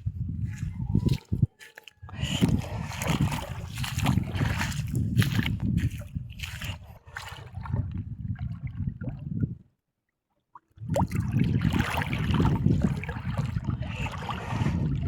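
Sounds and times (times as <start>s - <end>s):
water sloshing and gurgling: 0.0s - 15.0s.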